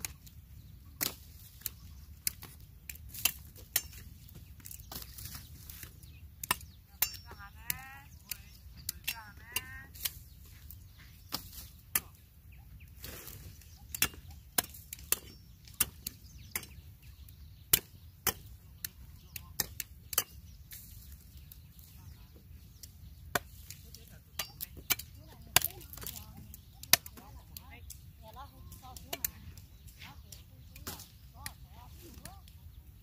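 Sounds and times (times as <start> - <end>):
knife chopping roots: 1.0 - 28.1, 28.7 - 31.6.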